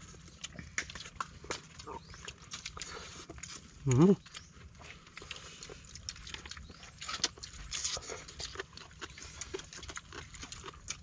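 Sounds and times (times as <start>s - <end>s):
chewing and mouth sounds: 0.0s - 11.0s.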